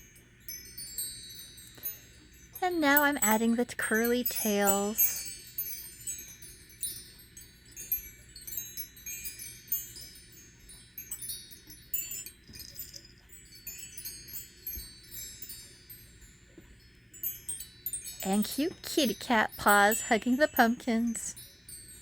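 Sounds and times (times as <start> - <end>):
chimes tinkling: 0.0 - 22.0.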